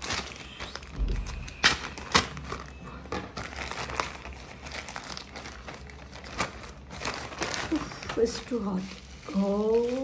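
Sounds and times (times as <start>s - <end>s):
plastic bag crinkling and tearing: 0.0s - 10.0s.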